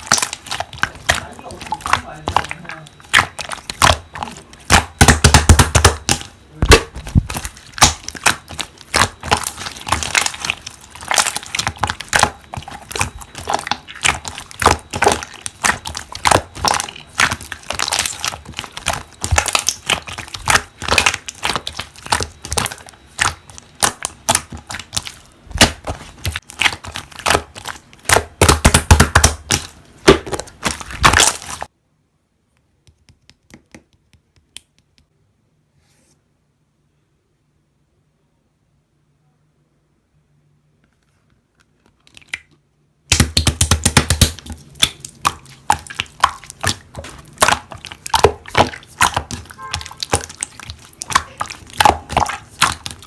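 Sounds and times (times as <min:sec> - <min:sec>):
slime crackling and popping: 0:00.0 - 0:31.7, 0:42.1 - 0:53.0.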